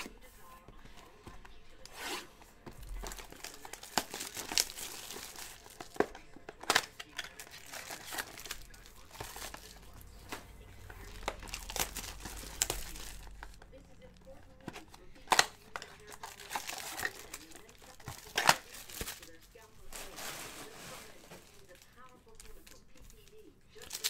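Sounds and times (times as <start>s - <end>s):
wrappers crinkling: 0.0s - 24.0s.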